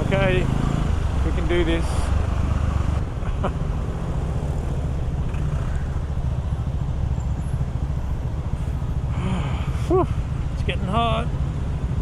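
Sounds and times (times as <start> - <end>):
city traffic noise: 0.0 - 12.0
motorcycle engine running: 0.0 - 12.0.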